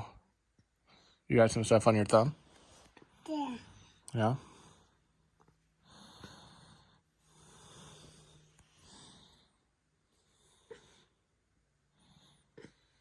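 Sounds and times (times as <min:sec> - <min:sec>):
soft breathing: 0:02.4 - 0:13.0.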